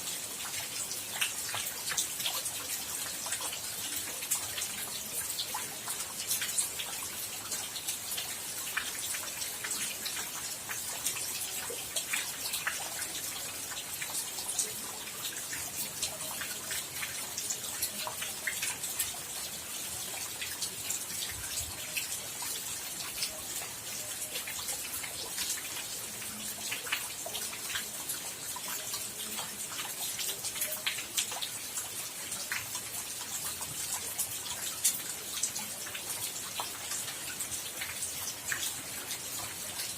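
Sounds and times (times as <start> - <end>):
drops pattering and dripping: 0.0 - 39.9
rain falling: 0.0 - 39.9.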